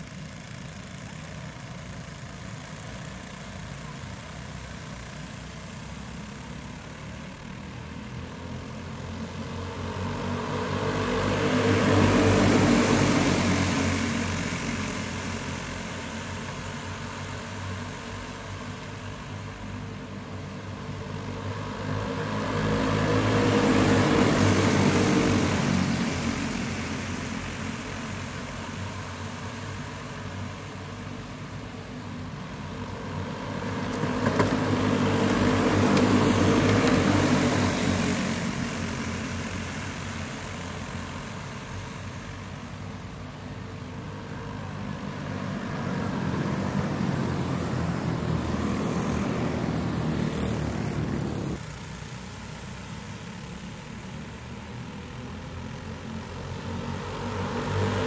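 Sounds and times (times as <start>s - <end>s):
go-kart engines droning: 0.0s - 58.0s.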